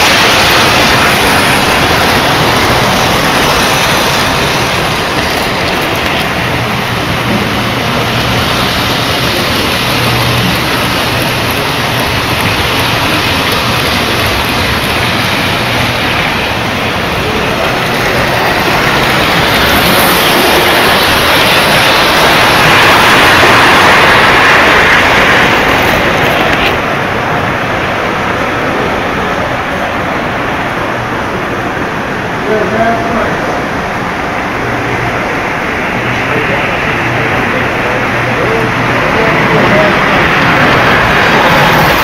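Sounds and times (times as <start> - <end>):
model trains rumbling on track: 0.0 - 42.0.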